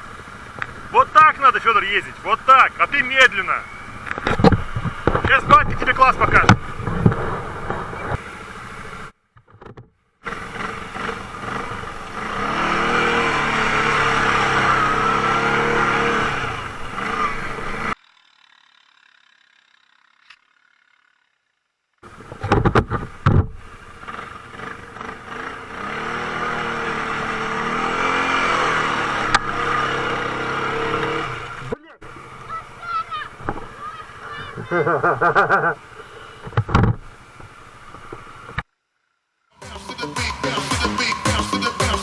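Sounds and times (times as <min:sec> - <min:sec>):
quad bike engine revving: 0:00.0 - 0:09.1, 0:10.2 - 0:19.5, 0:22.0 - 0:36.5, 0:39.6 - 0:42.0.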